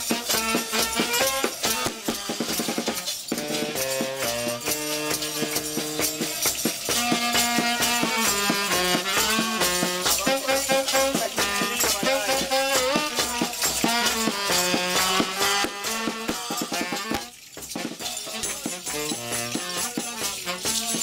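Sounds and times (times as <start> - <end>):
drums steady beat: 0.0 - 21.0
saxophone melody: 0.0 - 21.0.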